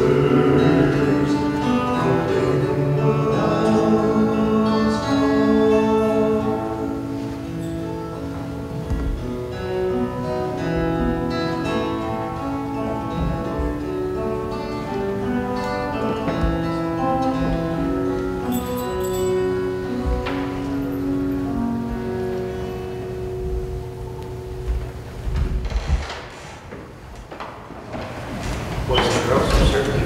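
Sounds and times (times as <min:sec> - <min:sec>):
instrumental music with held notes: 0:00.0 - 0:25.6.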